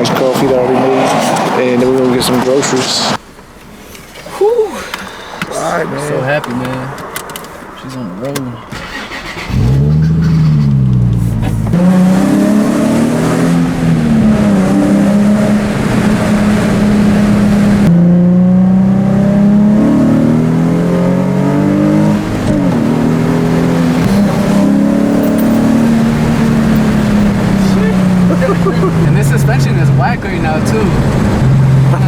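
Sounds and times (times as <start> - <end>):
car engine accelerating through gears: 5.4 - 32.0.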